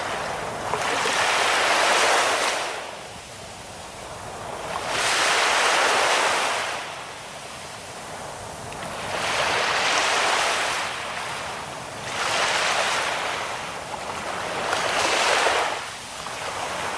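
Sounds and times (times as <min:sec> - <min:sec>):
ocean waves breaking on beach: 0:00.0 - 0:16.9.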